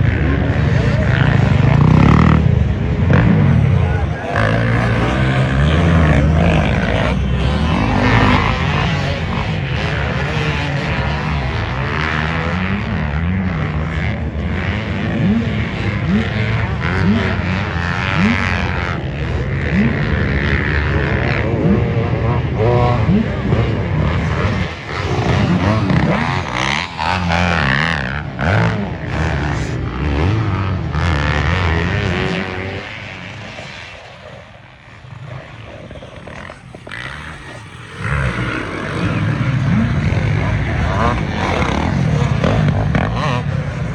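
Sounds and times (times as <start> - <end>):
engine revving in bursts: 0.0 - 33.4, 36.6 - 43.9
motocross engines running: 0.0 - 43.9.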